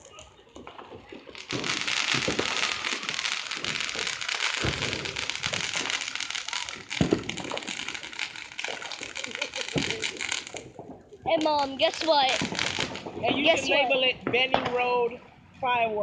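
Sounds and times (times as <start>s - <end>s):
deep firework bangs: 0.0s - 15.1s
fireworks crackling: 0.0s - 16.0s.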